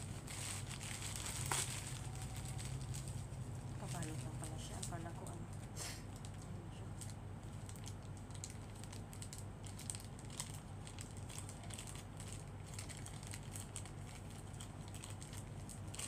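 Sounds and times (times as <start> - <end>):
plastic wrapping crinkling: 0.0 - 16.0
steady low hum: 0.0 - 16.0.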